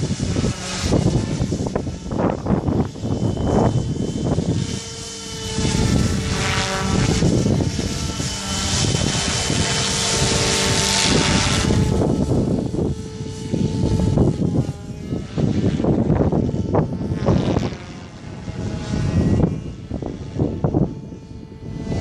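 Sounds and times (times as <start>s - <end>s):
electric motor whine: 0.0s - 22.0s
rotor blades whirring: 0.0s - 22.0s
wind buffeting microphone: 0.0s - 22.0s.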